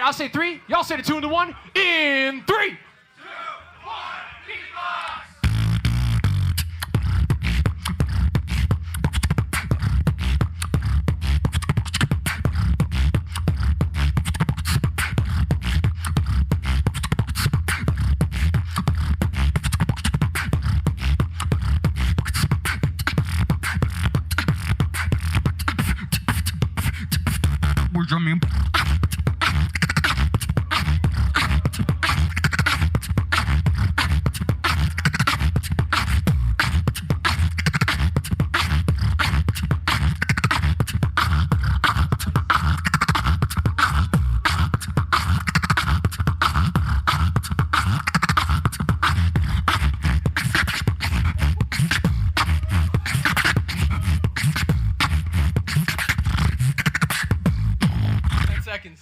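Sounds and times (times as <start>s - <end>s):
beatboxing through a microphone: 0.0s - 2.4s, 5.4s - 59.0s
heavy bass line: 5.4s - 58.8s.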